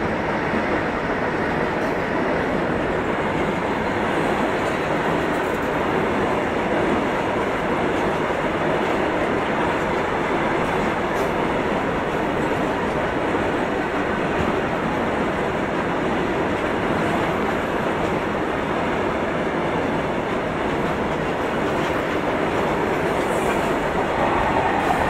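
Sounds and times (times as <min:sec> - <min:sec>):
train wagons rattling on rails: 0:00.0 - 0:25.0.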